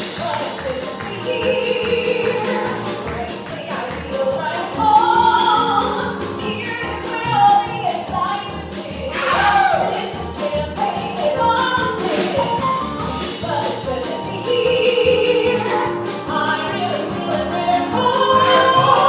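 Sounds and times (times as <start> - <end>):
woman singing: 0.0 - 12.6, 13.2 - 19.0
instrumental accompaniment: 0.0 - 19.0.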